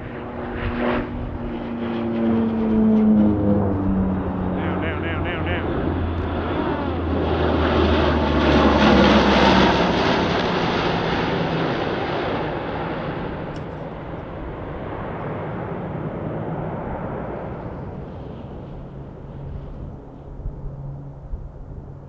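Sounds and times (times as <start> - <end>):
propeller aircraft flying low: 0.0 - 22.0.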